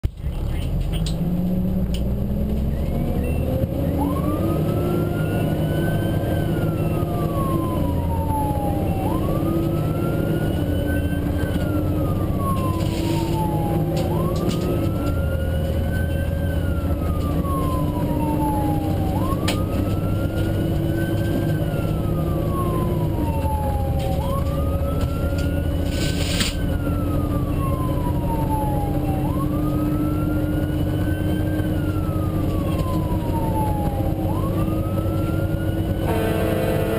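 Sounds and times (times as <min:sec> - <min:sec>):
truck engine rumble: 0:00.0 - 0:36.9
fire engine siren wailing: 0:01.0 - 0:36.9.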